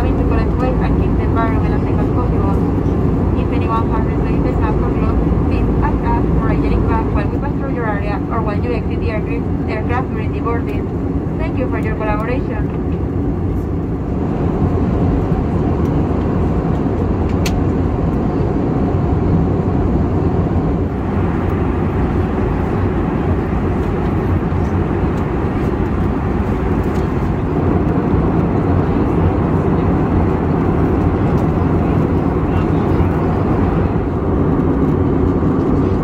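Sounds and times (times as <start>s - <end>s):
airliner cabin noise: 0.0s - 36.0s.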